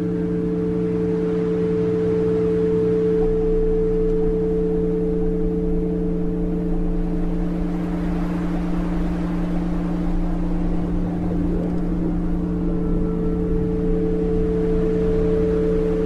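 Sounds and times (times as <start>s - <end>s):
low sustained electronic tones: 0.0s - 16.0s.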